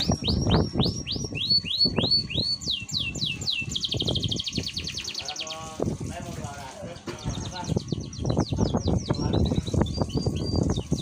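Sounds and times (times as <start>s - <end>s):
canary singing: 0.0s - 5.9s, 6.9s - 11.0s.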